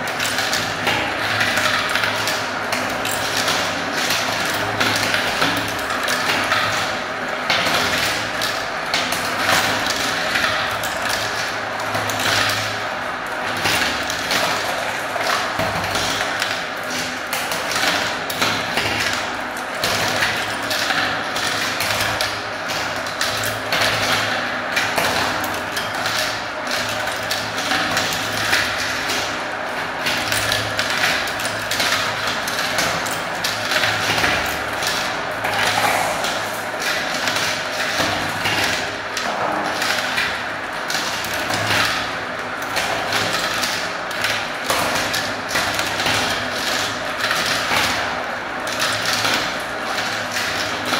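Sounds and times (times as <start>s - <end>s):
plastic balls rattling in marble run: 0.0s - 50.9s.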